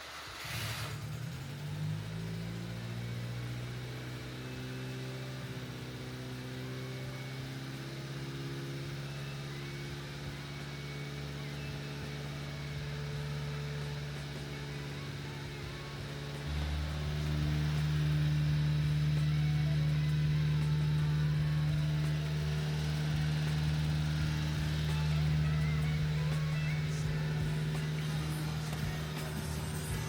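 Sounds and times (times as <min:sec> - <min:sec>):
truck engine idling: 0:00.4 - 0:30.0.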